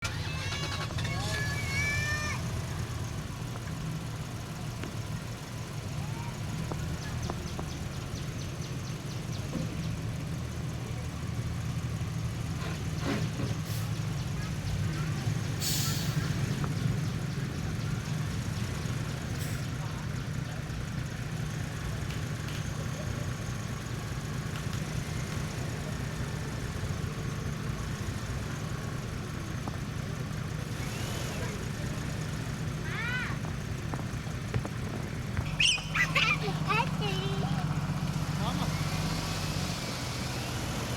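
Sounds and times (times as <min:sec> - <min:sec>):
engine low rumble: 0:00.0 - 0:40.9.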